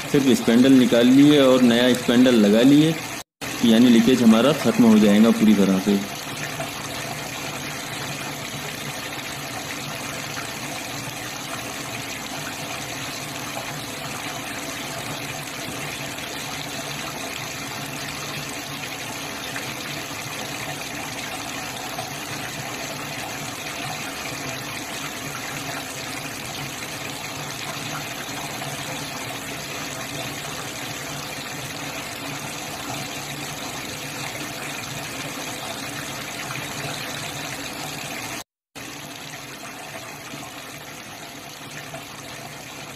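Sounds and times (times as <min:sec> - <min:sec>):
water pouring from tap: 0:00.0 - 0:42.9.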